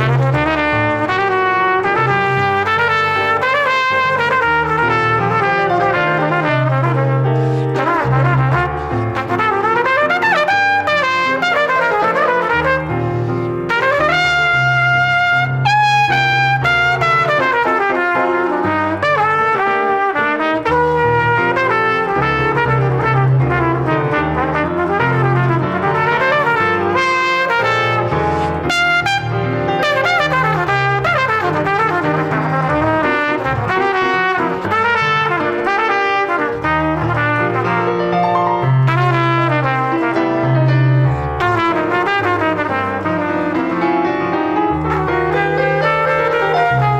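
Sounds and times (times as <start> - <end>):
salsa music with brass: 0.0 - 46.9.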